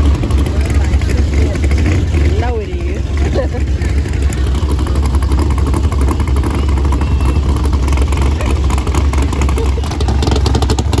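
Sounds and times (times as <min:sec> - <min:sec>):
cars passing slowly: 0:00.0 - 0:11.0.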